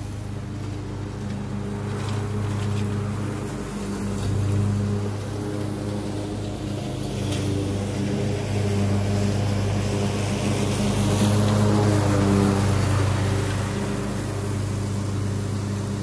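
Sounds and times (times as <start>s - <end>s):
mower engine running: 0.0s - 16.0s.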